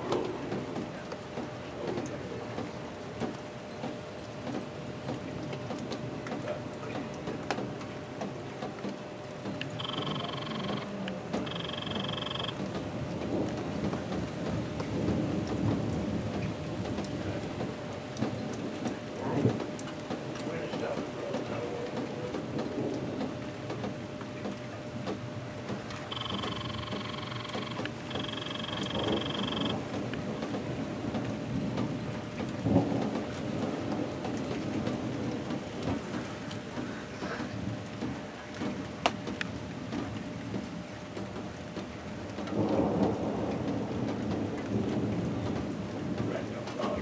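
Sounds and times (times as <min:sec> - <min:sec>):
rain pattering: 0:00.0 - 0:47.0
thunder rumbling: 0:09.0 - 0:47.0.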